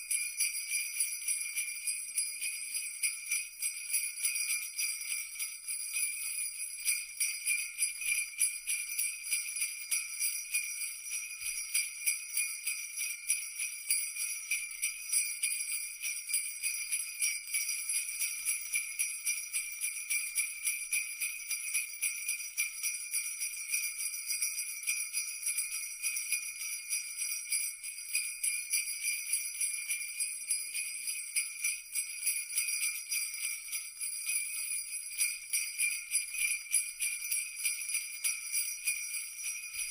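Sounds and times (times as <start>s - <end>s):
sleigh bells jingling: 0.0s - 39.9s.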